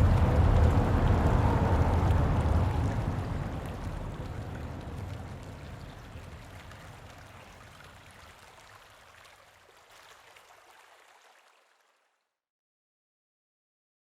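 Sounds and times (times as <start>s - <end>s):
running water rushing: 0.0s - 12.0s
water trickling: 0.0s - 12.1s.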